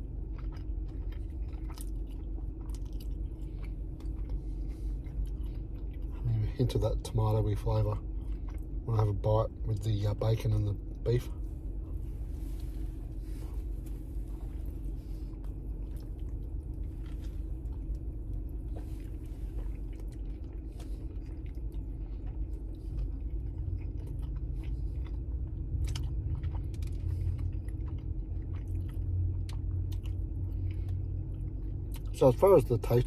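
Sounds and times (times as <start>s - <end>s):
low hum: 0.0s - 33.0s
man chewing food: 0.0s - 33.0s.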